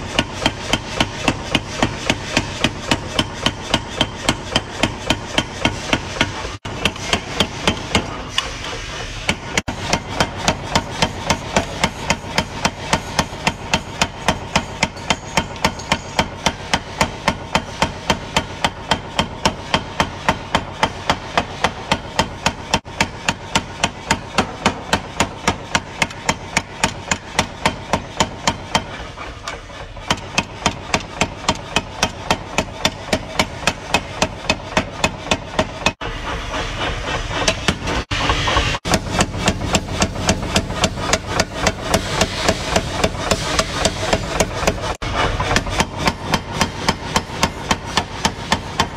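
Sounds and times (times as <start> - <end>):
machine running noise: 0.0 - 48.9
power hammer striking hot metal: 0.0 - 48.9.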